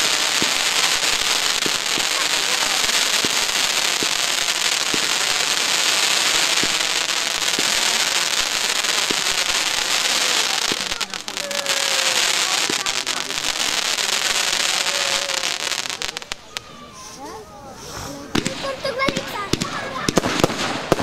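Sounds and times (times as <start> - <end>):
firework shots: 0.0 - 16.6, 18.2 - 21.0
firework crackle and pops: 0.0 - 17.2, 17.8 - 21.0.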